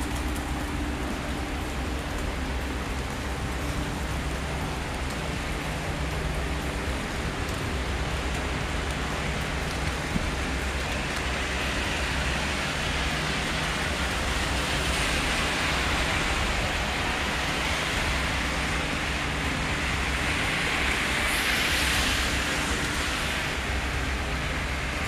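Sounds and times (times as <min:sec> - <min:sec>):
heavy rain pouring: 0:00.0 - 0:25.0
low traffic rumble: 0:00.0 - 0:25.0.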